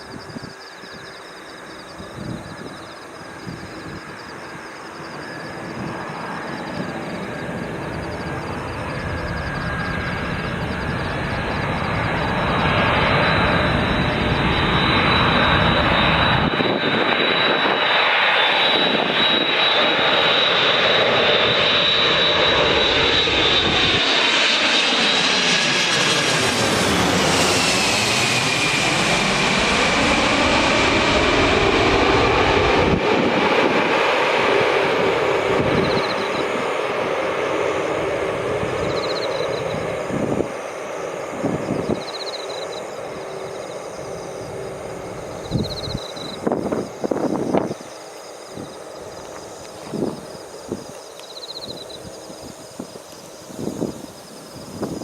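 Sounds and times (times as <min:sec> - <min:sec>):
jet engines passing with fan whine: 0:00.0 - 0:55.0.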